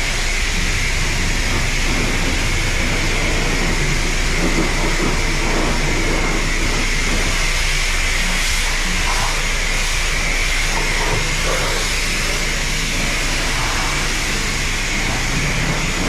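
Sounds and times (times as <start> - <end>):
pressure washer spraying car: 0.0 - 16.0.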